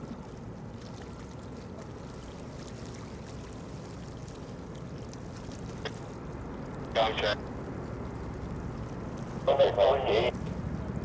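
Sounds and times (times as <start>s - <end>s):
distant helicopter rotor rumble: 0.0s - 11.0s.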